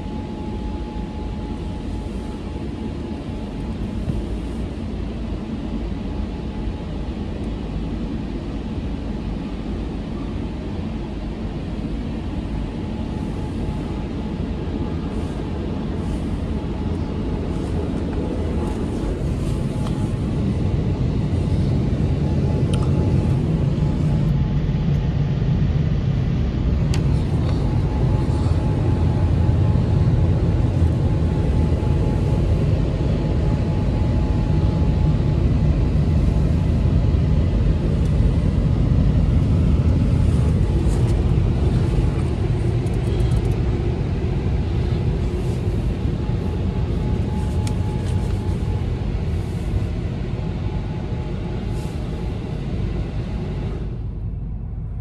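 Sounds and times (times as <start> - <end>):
faint steady whine: 0.0 - 55.0.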